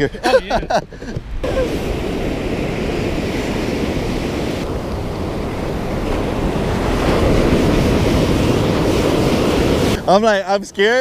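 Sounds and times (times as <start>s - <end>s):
wind buffeting microphone: 0.0s - 10.7s
ocean surf breaking: 0.0s - 11.0s.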